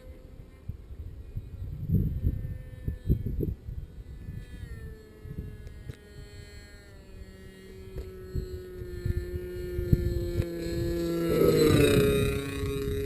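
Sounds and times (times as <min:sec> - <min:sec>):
model engine droning: 0:00.0 - 0:13.0
wind buffeting microphone: 0:00.0 - 0:13.0.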